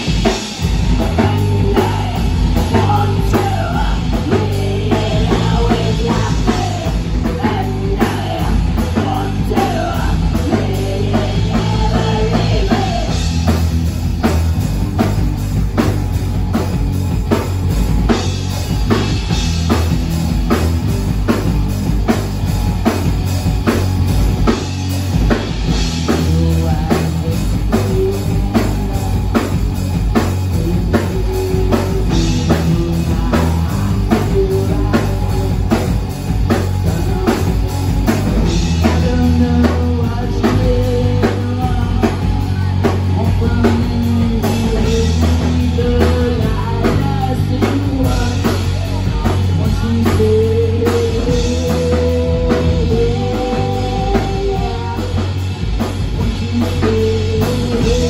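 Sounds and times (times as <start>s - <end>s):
person singing: 0.0s - 14.4s, 25.3s - 58.0s
drum kit beat: 0.0s - 58.0s
electric guitars: 0.0s - 58.0s.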